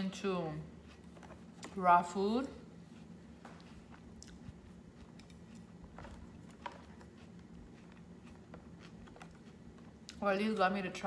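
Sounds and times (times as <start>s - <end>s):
soft chewing with mouth clicks: 0.6s - 1.8s, 2.6s - 10.4s.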